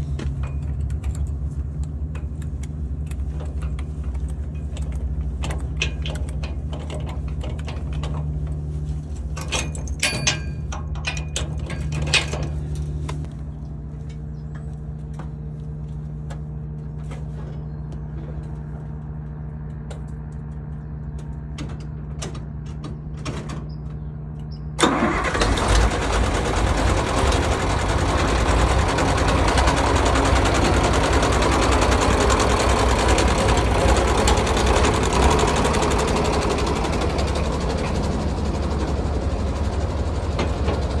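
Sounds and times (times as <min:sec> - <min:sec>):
low steady hum: 0:00.0 - 0:41.0
tractor engine running with clatter: 0:00.0 - 0:41.0.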